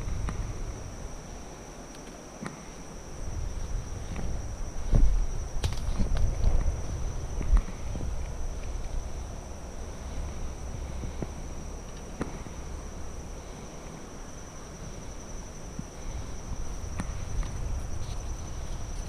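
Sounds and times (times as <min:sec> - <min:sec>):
low rumble: 0:00.0 - 0:01.5, 0:03.2 - 0:13.7, 0:14.3 - 0:19.0
insects droning: 0:00.0 - 0:19.0.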